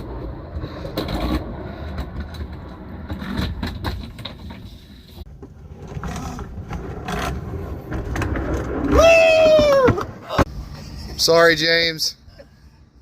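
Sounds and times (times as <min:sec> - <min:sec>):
knocks and scraping: 0:00.0 - 0:11.0
steady low rumble: 0:00.0 - 0:13.0.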